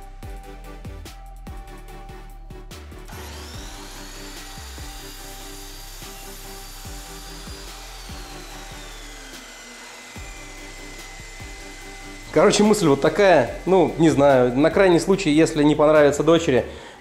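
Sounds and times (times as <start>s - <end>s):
background music: 0.0s - 17.0s
miter saw cutting wood: 3.1s - 17.0s.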